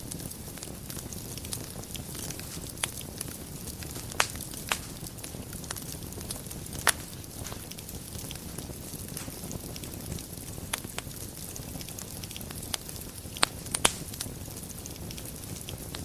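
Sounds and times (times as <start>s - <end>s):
fire crackling: 0.0s - 16.0s
fire rumbling: 0.0s - 16.0s
wood fire popping: 0.0s - 16.0s.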